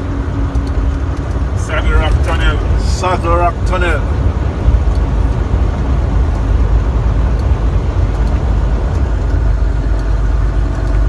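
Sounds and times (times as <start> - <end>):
truck diesel engine and road noise: 0.0 - 11.0.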